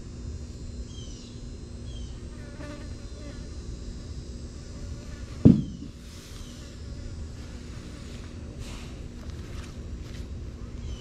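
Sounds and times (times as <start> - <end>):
insect buzzing: 0.0 - 10.0
low steady rumble: 0.0 - 11.0.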